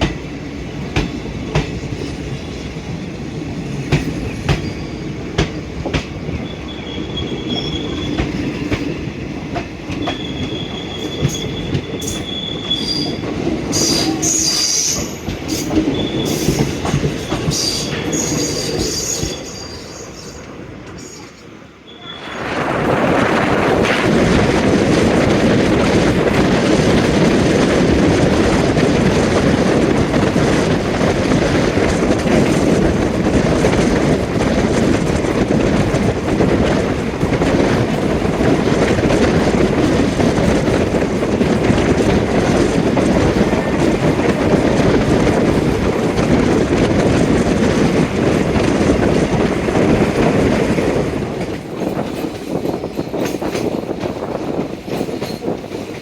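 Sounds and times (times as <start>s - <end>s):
clickety-clack of rail joints: 0.0s - 21.6s, 24.0s - 56.0s
train wheels rumbling on rails: 0.0s - 56.0s.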